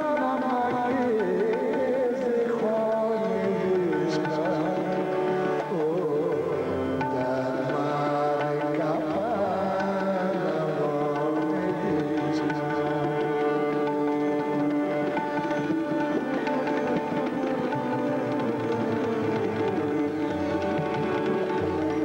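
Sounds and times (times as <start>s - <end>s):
man singing with ornamental runs: 0.0s - 22.0s
sustained melodic accompaniment: 0.0s - 22.0s
tabla: 0.0s - 22.0s.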